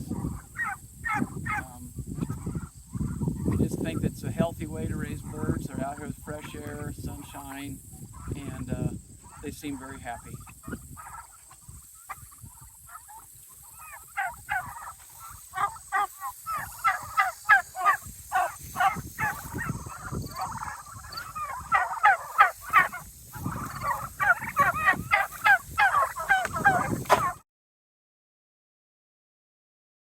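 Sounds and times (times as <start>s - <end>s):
turkeys yelping: 0.0s - 4.1s, 5.1s - 27.4s.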